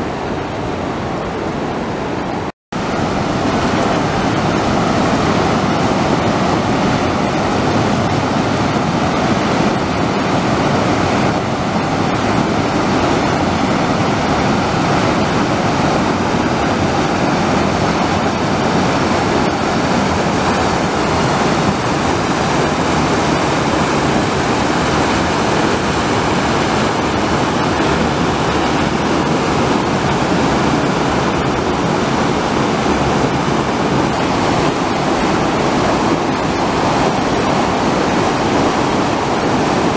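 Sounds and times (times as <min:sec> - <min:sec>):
turbulent water rushing: 0:00.0 - 0:39.9.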